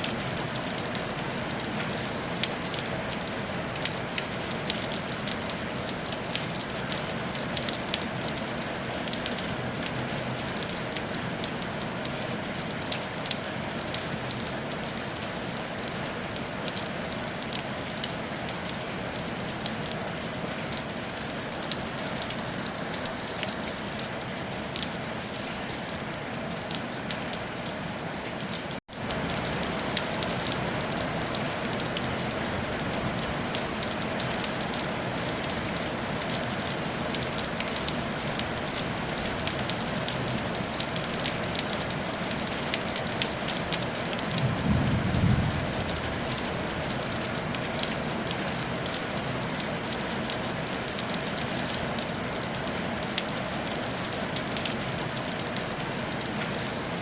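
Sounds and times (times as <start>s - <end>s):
rain on a tile roof: 0.0s - 57.0s.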